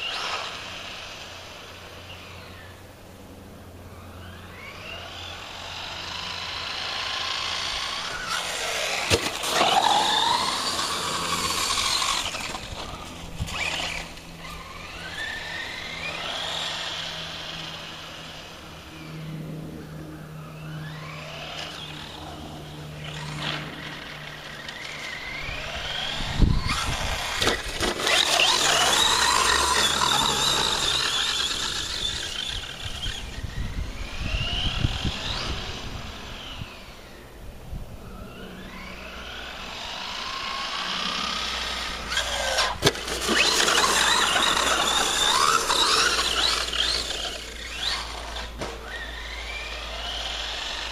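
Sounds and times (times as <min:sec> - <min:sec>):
electric motor whining: 0:03.8 - 0:50.9.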